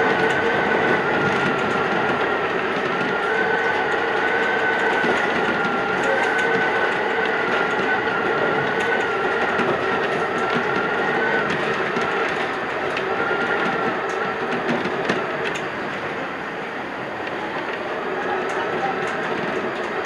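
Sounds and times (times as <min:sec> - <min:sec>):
train rolling noise: 0:00.0 - 0:20.0.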